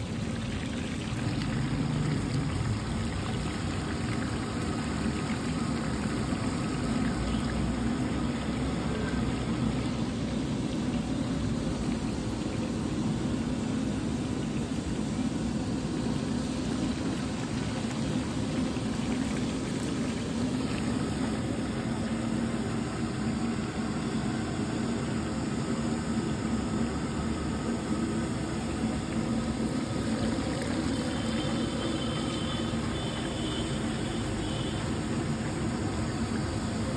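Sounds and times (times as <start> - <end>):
low steady hum: 0.0 - 36.9
oil bubbling and sizzling: 0.0 - 36.9.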